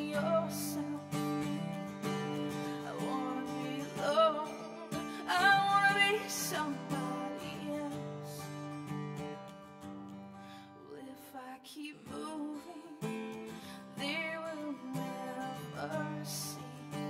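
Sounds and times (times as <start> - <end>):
person singing with vibrato: 0.0 - 8.6, 10.8 - 17.0
acoustic guitar chords: 0.0 - 17.0.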